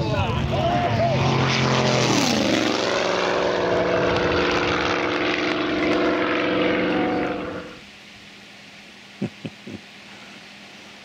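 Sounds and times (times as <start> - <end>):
model airplane engine and propeller: 0.0 - 9.2.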